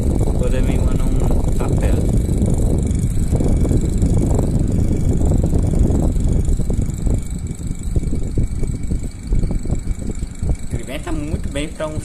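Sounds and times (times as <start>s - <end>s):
electric fan motor: 0.0s - 12.0s
fan air buffeting microphone: 0.0s - 12.0s.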